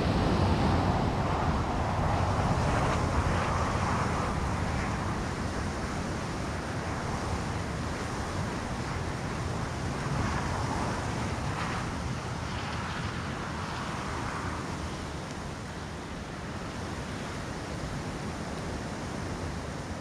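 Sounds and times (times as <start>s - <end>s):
wind buffeting a microphone: 0.0s - 17.0s.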